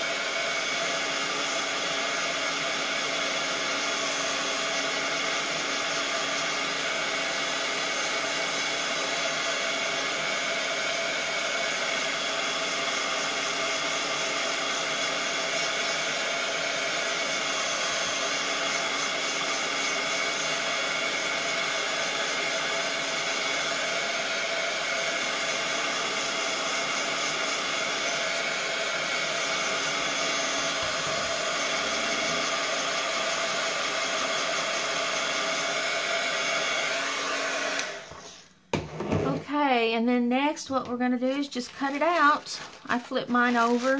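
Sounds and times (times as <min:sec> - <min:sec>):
heat tool fan whirring: 0:00.0 - 0:38.4.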